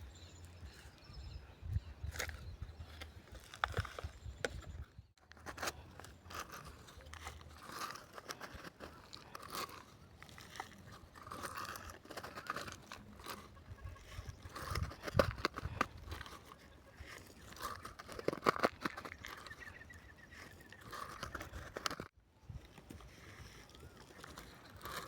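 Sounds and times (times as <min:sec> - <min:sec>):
soil crunching and scraping: 0:00.0 - 0:25.0.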